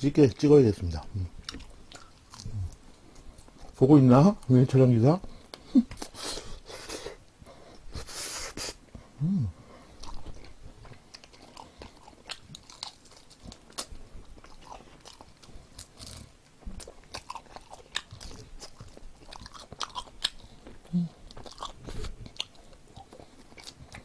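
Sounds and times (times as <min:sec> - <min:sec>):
chewing crispy food: 0:00.2 - 0:09.1, 0:09.7 - 0:24.0.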